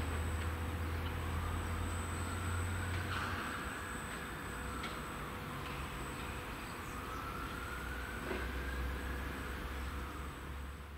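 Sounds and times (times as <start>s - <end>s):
distant vehicle rumble: 0.0s - 10.9s
outdoor background noise: 0.0s - 10.9s.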